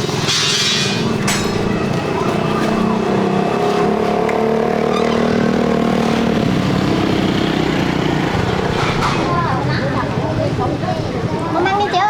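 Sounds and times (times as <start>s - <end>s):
small engine running: 0.9s - 12.0s.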